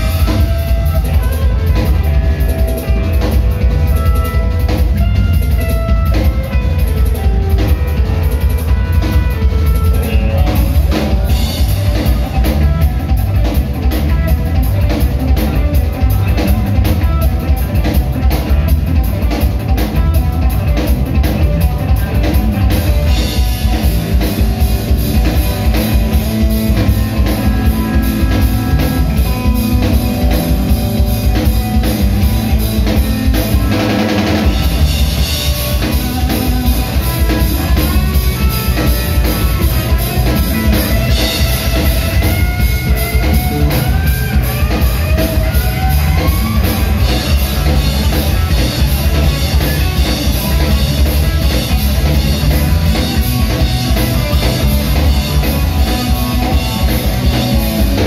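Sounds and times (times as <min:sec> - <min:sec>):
drum kit: 0:00.0 - 0:58.0
rock band playing: 0:00.0 - 0:58.0.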